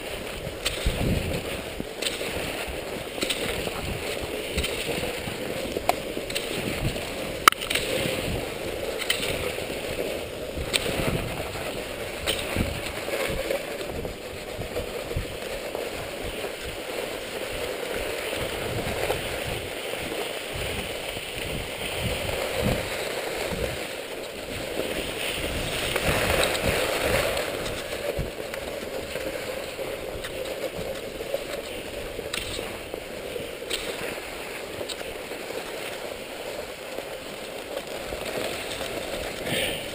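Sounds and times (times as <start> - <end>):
ski poles planting in snow: 0.0 - 39.9
skis hissing over snow: 0.0 - 39.9.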